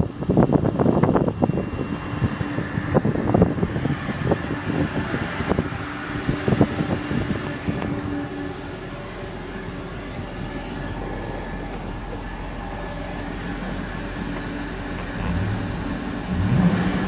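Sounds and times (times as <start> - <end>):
vehicle engine humming: 0.0 - 17.0
wind buffeting microphone: 0.0 - 17.0.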